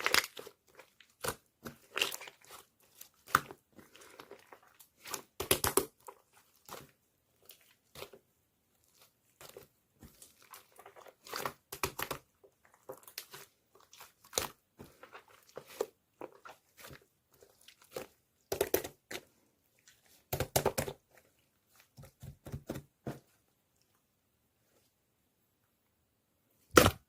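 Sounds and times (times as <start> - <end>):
slime squishing and crackling: 0.0 - 22.8.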